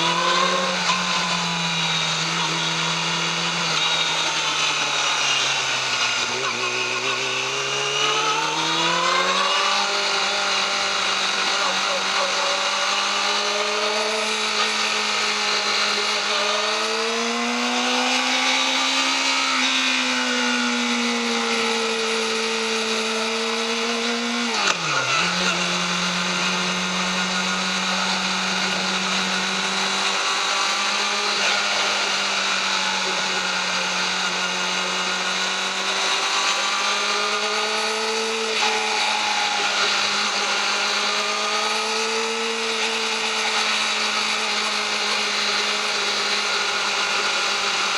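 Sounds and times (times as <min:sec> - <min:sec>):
motorcycle engine at high revs: 0:00.0 - 0:47.9.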